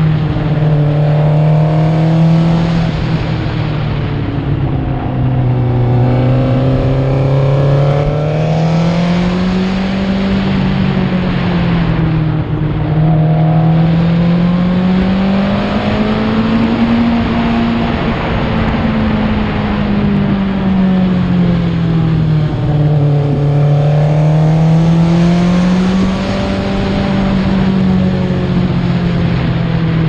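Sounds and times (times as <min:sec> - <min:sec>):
racing engine revving: 0:00.0 - 0:20.6, 0:21.6 - 0:28.0.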